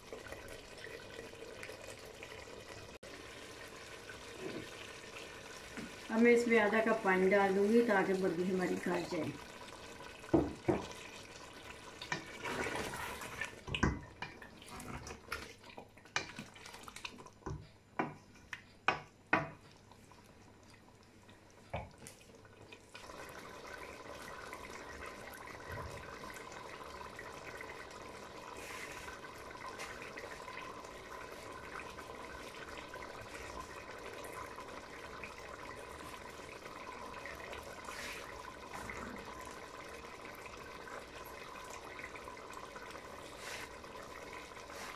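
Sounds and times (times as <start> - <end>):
curry bubbling: 0.0 - 44.9.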